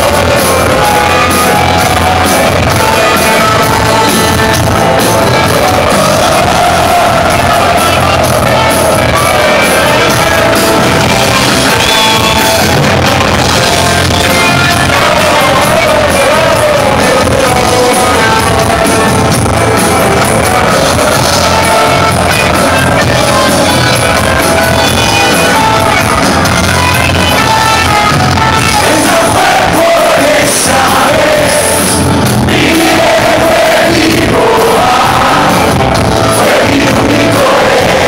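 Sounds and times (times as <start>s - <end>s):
live rock band playing: 0.0s - 38.0s
person singing lead: 0.0s - 38.0s.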